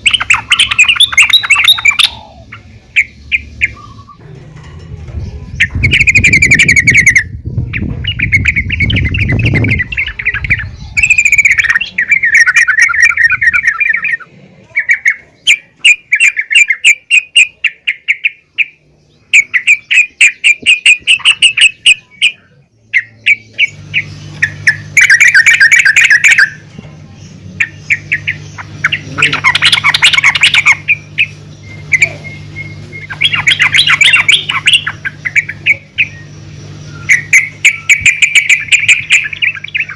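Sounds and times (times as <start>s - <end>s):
bird chattering calls: 0.0s - 4.2s, 5.1s - 39.9s
low steady hum: 0.0s - 39.9s.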